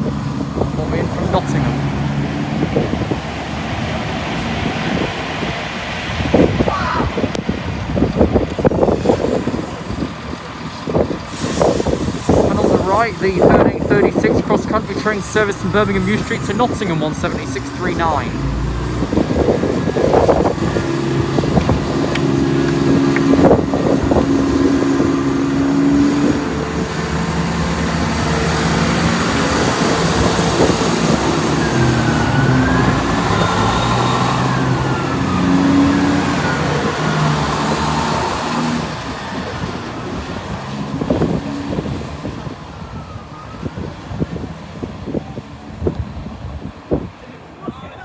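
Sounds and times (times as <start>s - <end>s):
diesel train pulling away: 7.5s - 46.6s.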